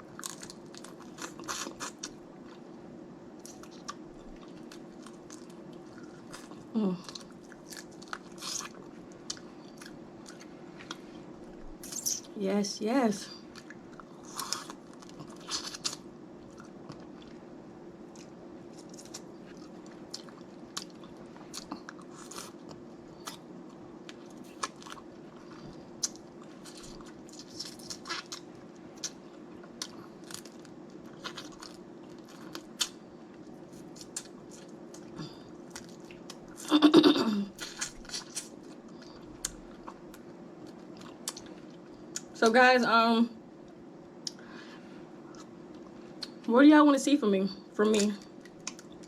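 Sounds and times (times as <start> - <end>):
chewing crab legs: 0.0 - 2.8, 3.4 - 12.3, 13.3 - 36.7, 37.4 - 42.4, 48.0 - 49.0.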